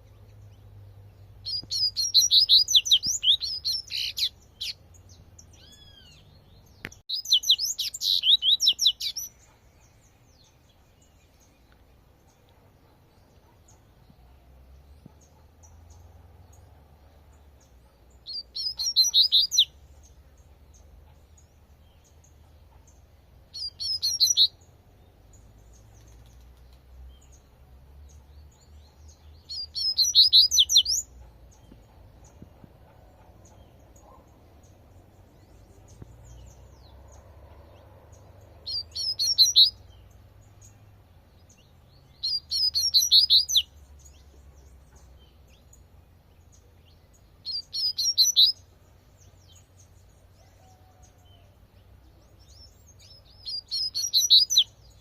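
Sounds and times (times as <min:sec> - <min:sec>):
bird singing high quick phrases: 0:00.0 - 0:50.1, 0:51.8 - 0:55.0.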